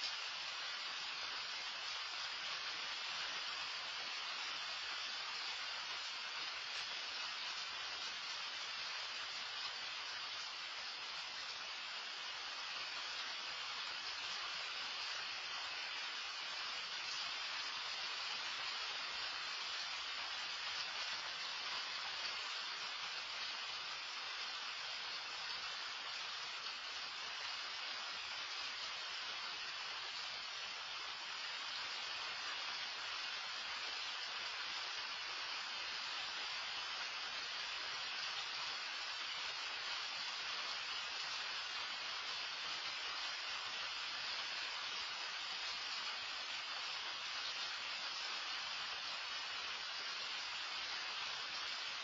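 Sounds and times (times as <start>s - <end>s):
loud rain falling: 0.0s - 52.0s.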